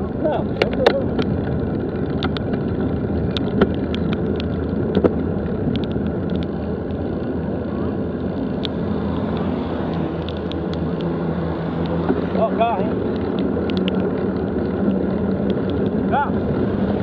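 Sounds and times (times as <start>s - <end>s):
bicycle tyres rumbling on dirt: 0.0s - 17.0s
bike clicks and rattles: 0.0s - 17.0s.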